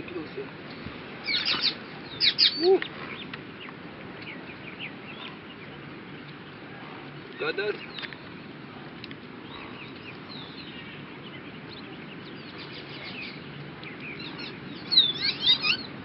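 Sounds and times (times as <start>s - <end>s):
birds chirping and twittering: 0.0s - 16.0s
steady background hiss: 0.0s - 16.0s.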